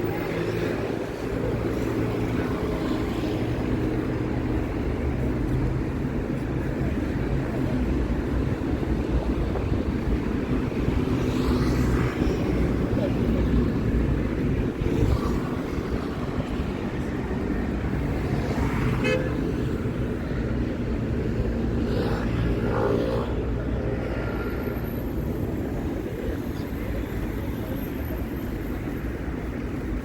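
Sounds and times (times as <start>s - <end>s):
passing cars rumbling: 0.0s - 30.0s.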